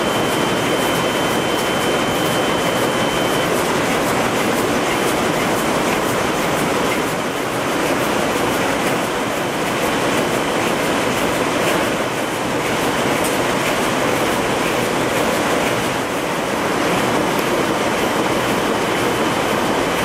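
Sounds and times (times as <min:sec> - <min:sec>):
textile machinery clattering: 0:00.1 - 0:20.0.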